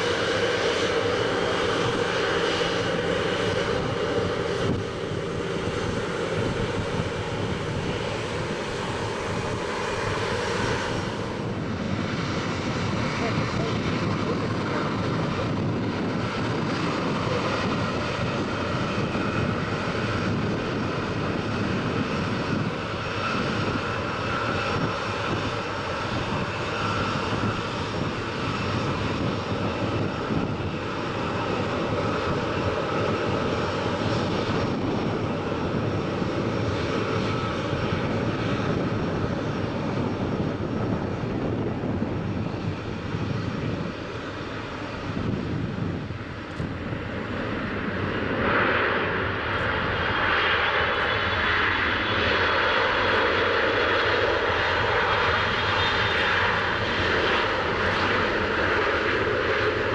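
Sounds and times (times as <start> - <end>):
jet engines on approach: 0.0 - 59.9.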